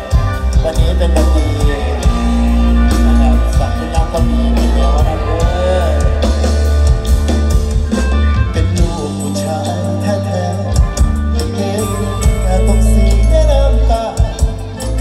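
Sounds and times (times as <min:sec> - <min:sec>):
band music: 0:00.0 - 0:15.0
drum kit beat: 0:00.0 - 0:15.0
heavy electric bass: 0:00.0 - 0:15.0.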